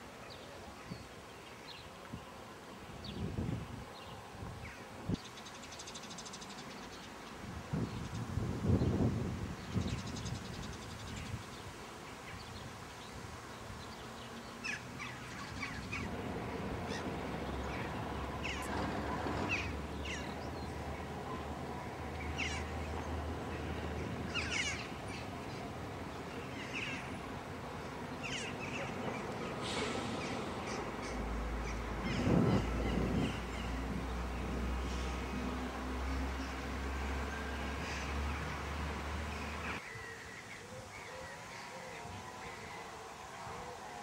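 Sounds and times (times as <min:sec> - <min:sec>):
birds chirping: 0:00.2 - 0:43.9.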